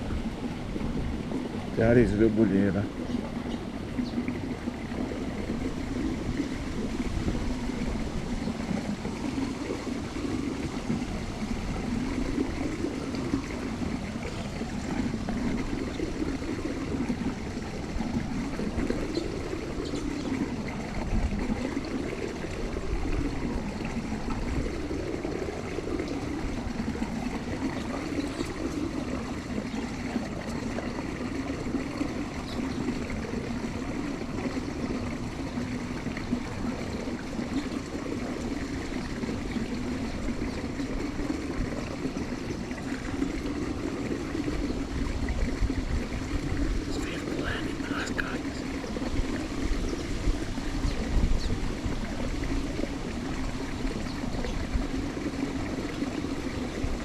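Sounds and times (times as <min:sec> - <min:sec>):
water trickling and gurgling: 0:00.0 - 0:57.0.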